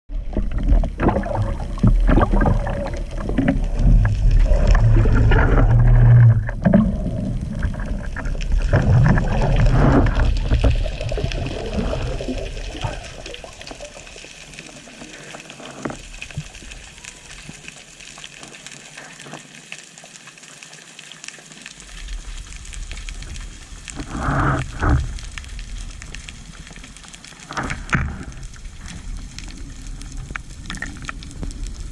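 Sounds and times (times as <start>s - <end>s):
water sloshing and rushing: 0.1s - 31.9s.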